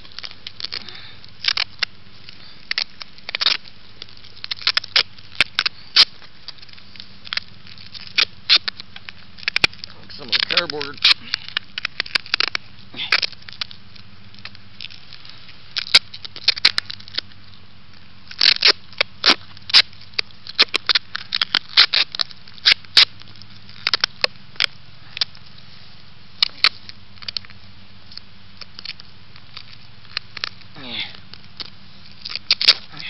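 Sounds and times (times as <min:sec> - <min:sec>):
duct tape ripping off roll: 0:00.0 - 0:25.7, 0:26.3 - 0:33.0.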